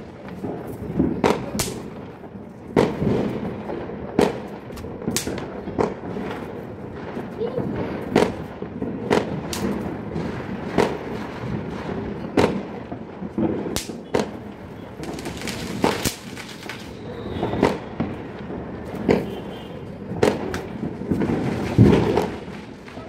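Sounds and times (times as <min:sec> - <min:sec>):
distant firecracker crackling: 0:00.0 - 0:23.0
firecracker bangs: 0:00.0 - 0:23.0.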